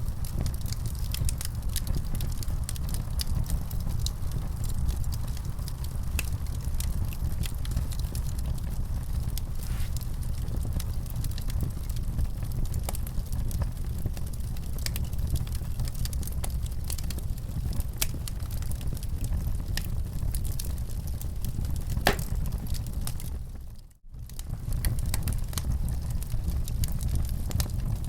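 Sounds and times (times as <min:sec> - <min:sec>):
low fire rumble: 0:00.0 - 0:28.0
wood fire crackling: 0:00.0 - 0:28.0.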